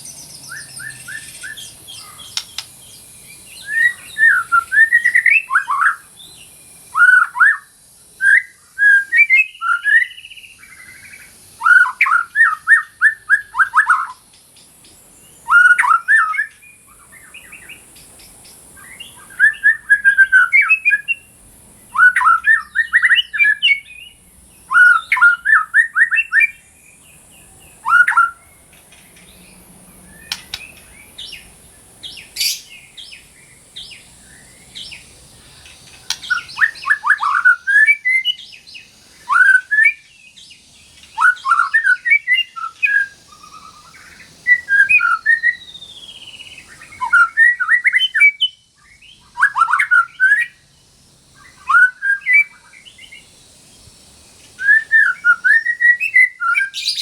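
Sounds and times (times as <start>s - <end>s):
faint high hiss: 0.0s - 57.0s
songbird singing rapid notes: 0.0s - 57.0s.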